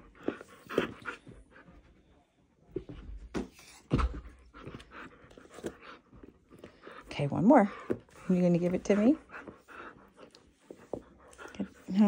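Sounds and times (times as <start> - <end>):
dog panting: 0.0 - 2.0, 3.9 - 12.0.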